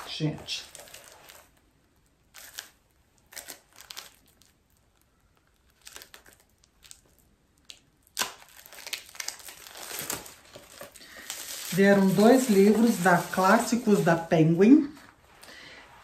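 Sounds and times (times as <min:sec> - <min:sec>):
wrapping crinkling: 0:00.0 - 0:15.5.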